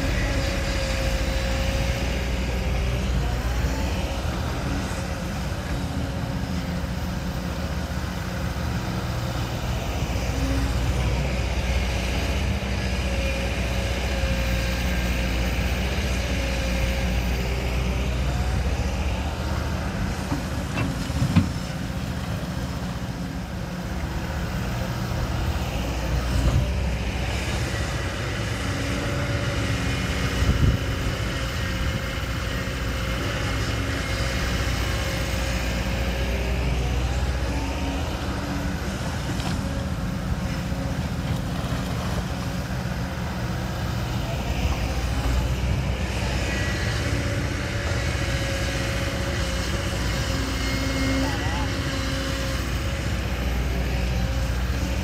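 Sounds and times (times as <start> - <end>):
diesel machinery running: 0.0 - 55.0.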